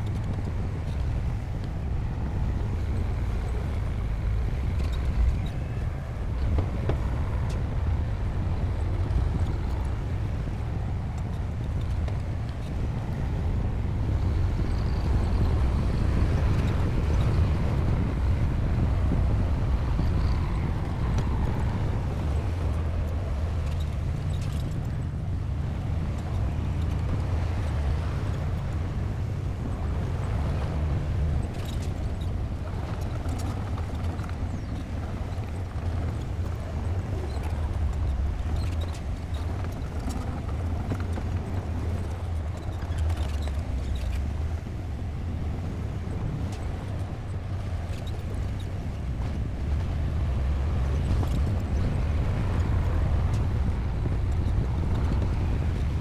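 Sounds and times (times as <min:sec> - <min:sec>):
bulldozer diesel engine rumbling: 0:00.1 - 0:56.0.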